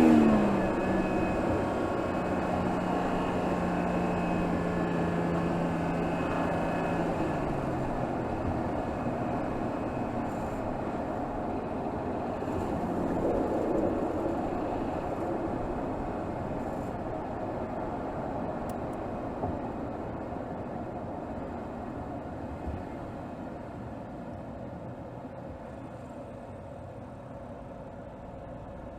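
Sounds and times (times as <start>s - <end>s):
car engine: 0.0s - 27.4s
road and wind noise: 0.0s - 28.9s.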